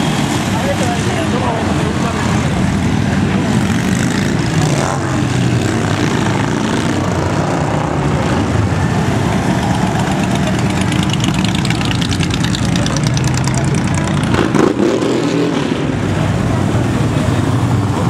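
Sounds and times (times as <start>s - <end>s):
motorcycles riding past: 0.0s - 18.0s.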